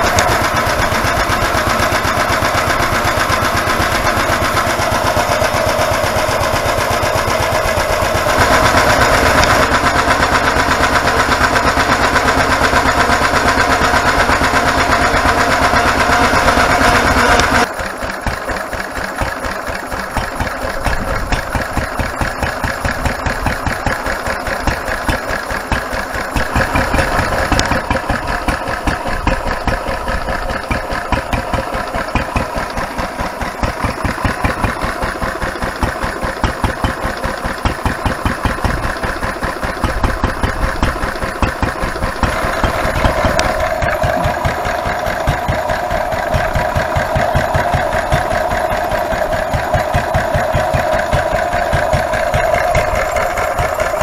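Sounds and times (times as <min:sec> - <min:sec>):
grinding mill milling: 0:00.0 - 0:54.0
stationary engine running: 0:00.0 - 0:54.0.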